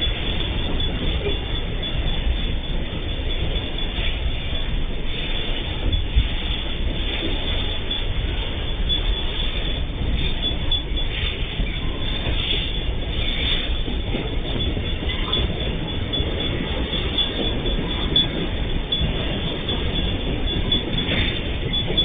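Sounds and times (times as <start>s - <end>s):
high wheel squeals: 0.0s - 22.0s
train wheels rumbling on rails: 0.0s - 22.0s.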